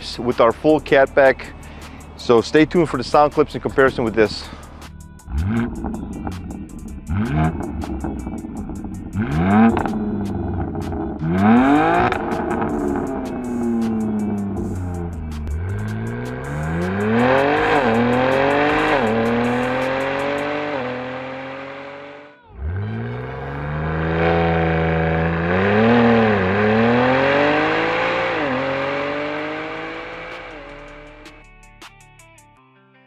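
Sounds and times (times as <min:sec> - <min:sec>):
car engine accelerating hard: 0:00.8 - 0:31.4.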